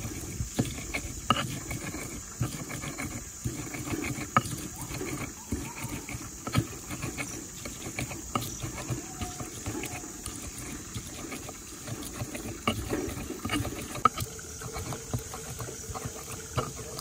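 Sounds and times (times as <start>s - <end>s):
pestle squishing chillies: 0.0s - 17.0s.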